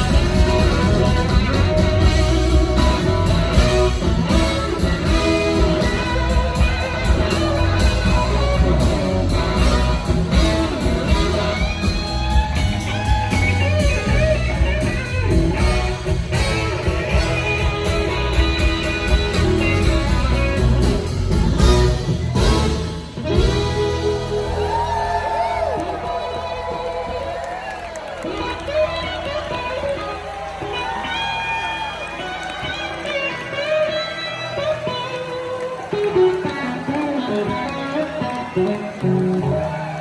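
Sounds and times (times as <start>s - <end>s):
electric guitars playing lead: 0.0s - 40.0s
live rock band playing: 0.0s - 40.0s.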